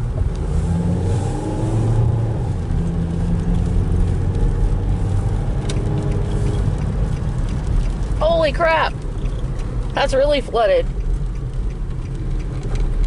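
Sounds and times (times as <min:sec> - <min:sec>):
car engine rumbling inside cabin: 0:00.0 - 0:13.0.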